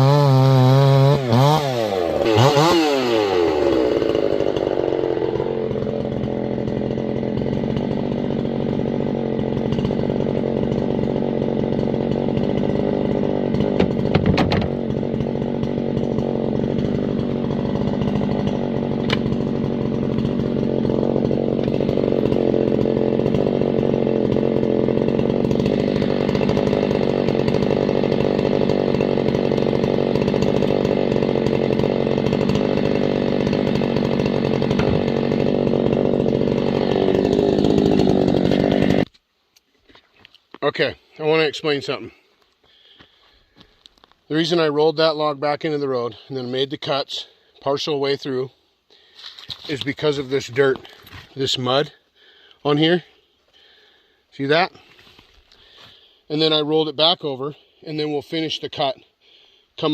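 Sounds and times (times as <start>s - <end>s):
chainsaw cutting log: 0.0s - 39.2s, 39.9s - 59.9s.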